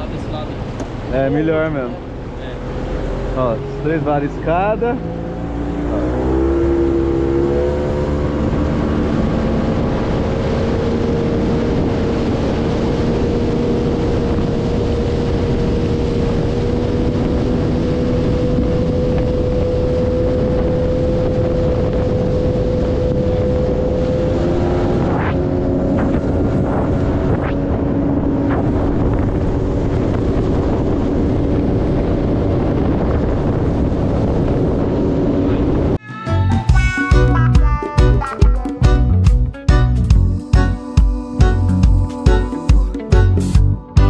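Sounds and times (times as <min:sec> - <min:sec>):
water noise: 0:00.0 - 0:36.0, 0:36.8 - 0:44.0
wind: 0:00.0 - 0:36.1
outboard motor running: 0:00.1 - 0:36.0.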